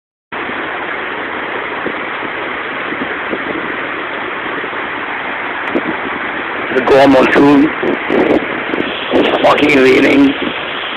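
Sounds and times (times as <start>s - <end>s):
heavy rain hiss: 0.4s - 10.9s.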